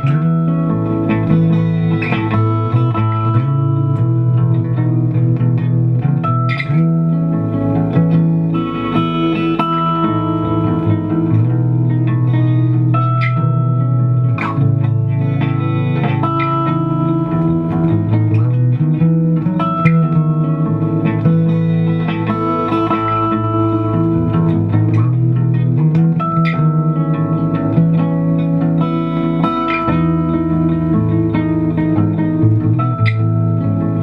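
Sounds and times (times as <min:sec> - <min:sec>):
bass guitar plucked: 0:00.0 - 0:34.0
repeating guitar riff: 0:00.0 - 0:34.0.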